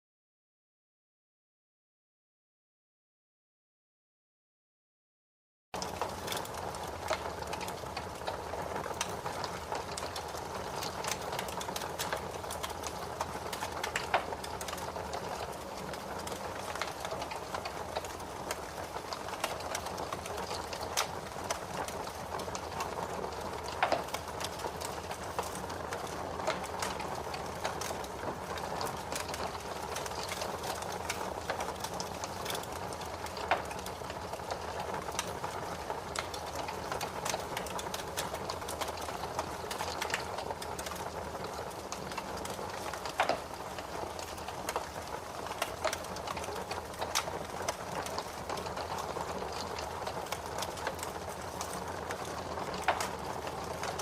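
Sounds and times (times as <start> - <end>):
fire crackling and popping: 5.8 - 54.0.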